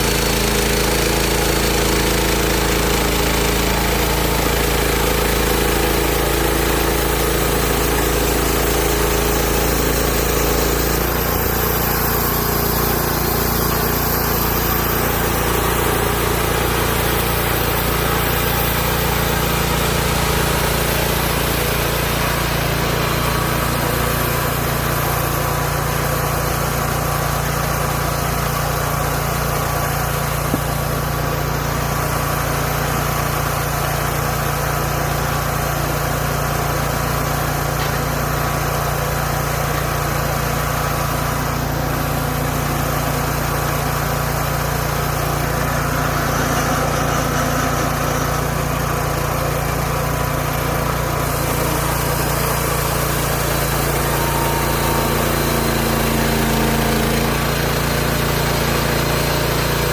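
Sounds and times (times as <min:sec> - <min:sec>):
sawmill engine droning: 0:00.0 - 0:59.9.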